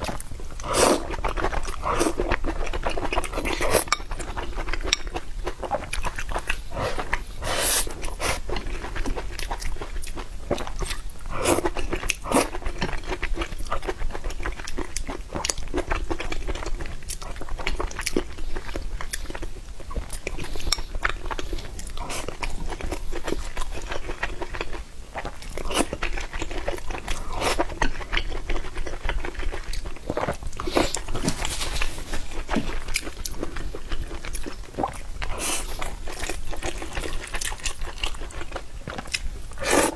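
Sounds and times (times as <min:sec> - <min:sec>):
food crunching: 0:00.0 - 0:39.9
person chewing food: 0:00.0 - 0:39.9.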